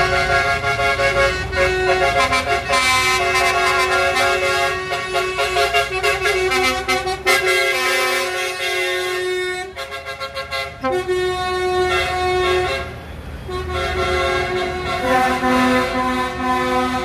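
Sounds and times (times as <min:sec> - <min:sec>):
vehicle engines rumbling: 0:00.0 - 0:17.0
vehicle horns blasting: 0:00.0 - 0:17.0.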